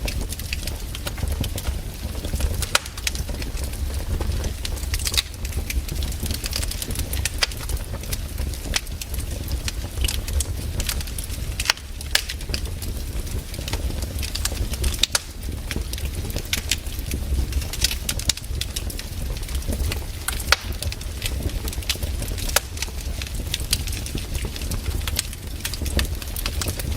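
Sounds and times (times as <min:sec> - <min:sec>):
firewood popping and snapping: 0:00.0 - 0:26.9
wood fire crackling: 0:00.0 - 0:26.9.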